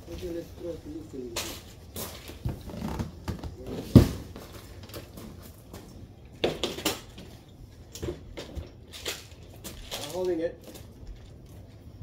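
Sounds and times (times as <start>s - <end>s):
knocks and metallic clatters: 1.3s - 12.0s.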